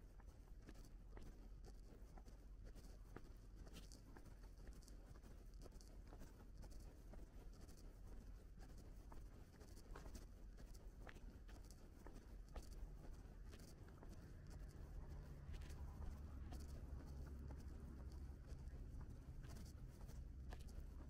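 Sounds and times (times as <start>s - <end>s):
small ticks and crackles: 0.0s - 21.0s.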